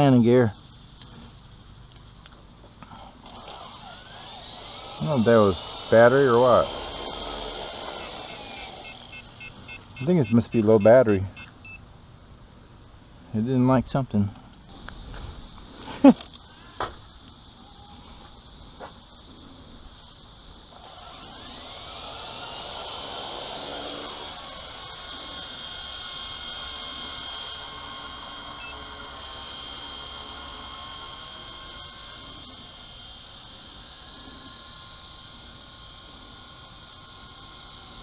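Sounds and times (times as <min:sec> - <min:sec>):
rc helicopter whine and rotor whir: 0:00.0 - 0:11.8, 0:14.4 - 0:38.0.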